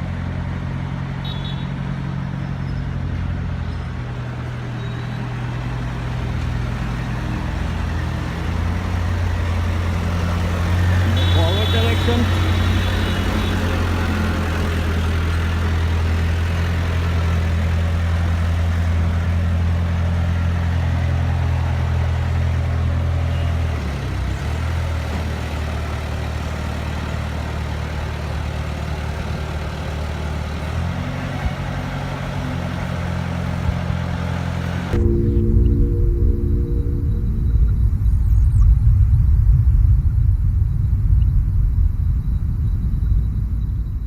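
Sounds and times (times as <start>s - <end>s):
skid steer loader engine running: 0.0s - 35.6s.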